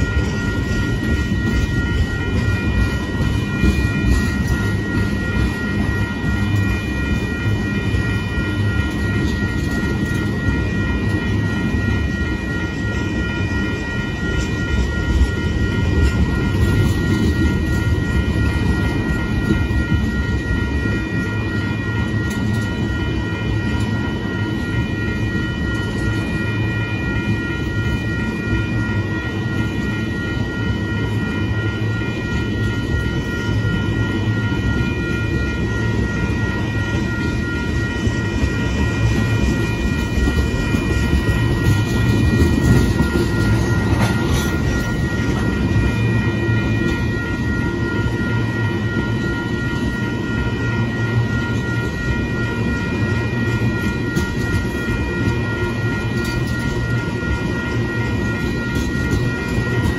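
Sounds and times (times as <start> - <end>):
steady high-pitched tones: 0.0 - 59.9
train wheels rumbling on rail: 0.0 - 59.9.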